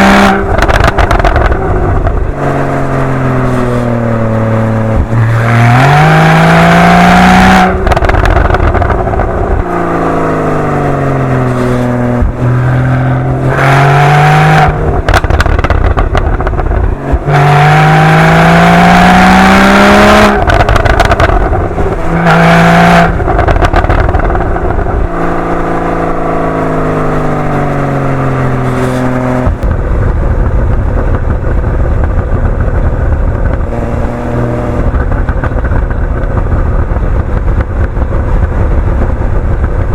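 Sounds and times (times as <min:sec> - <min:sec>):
exhaust pops and crackles: 0:00.0 - 0:06.1, 0:07.2 - 0:13.7, 0:14.5 - 0:18.0, 0:18.9 - 0:26.3, 0:28.5 - 0:39.9
car engine revving: 0:00.0 - 0:39.9.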